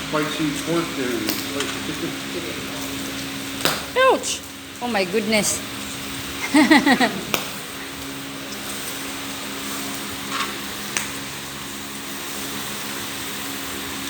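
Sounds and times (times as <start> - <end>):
exhaust fan running: 0.0 - 14.0
meat sizzling on a grill: 0.0 - 14.0.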